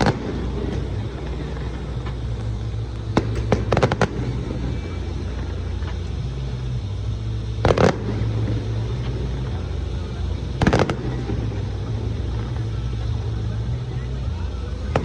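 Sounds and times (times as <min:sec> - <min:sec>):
fireworks cracking: 0:00.0 - 0:15.0
steady low rumble: 0:00.0 - 0:15.0.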